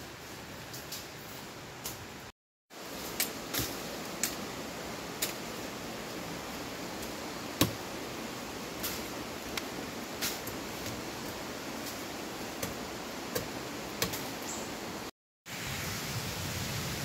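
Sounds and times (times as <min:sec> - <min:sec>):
rainforest background hiss: 0:00.0 - 0:17.0.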